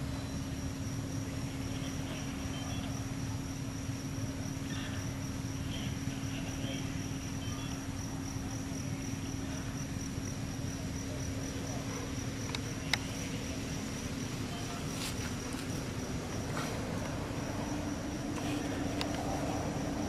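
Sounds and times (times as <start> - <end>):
faint chirps: 0.0 - 16.8
high insect drone: 0.0 - 20.0
low hum and rumble: 0.0 - 20.0.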